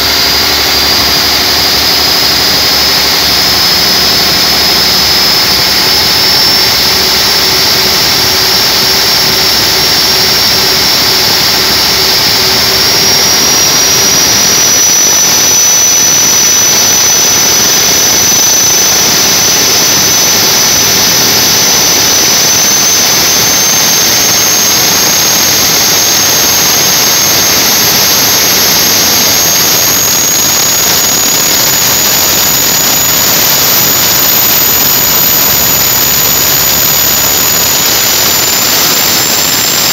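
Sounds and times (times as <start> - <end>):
diesel engine running loud: 0.0 - 39.9
turbocharger whine: 0.0 - 39.9.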